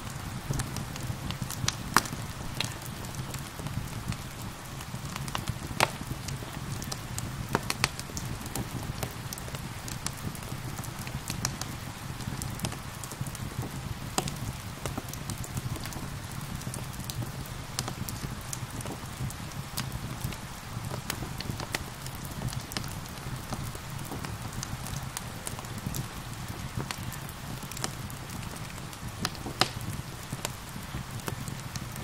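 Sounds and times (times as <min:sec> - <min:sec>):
gentle rain hissing: 0:00.0 - 0:32.0
wood fire crackling and popping: 0:00.0 - 0:32.0.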